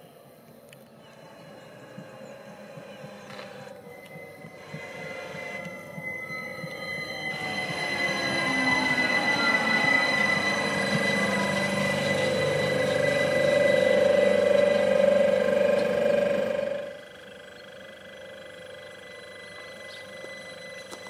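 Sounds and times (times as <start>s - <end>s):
electric drive whine: 0.0s - 21.0s
train wheels on rails: 0.8s - 17.2s, 18.4s - 21.0s
wheel squeal: 1.0s - 21.0s.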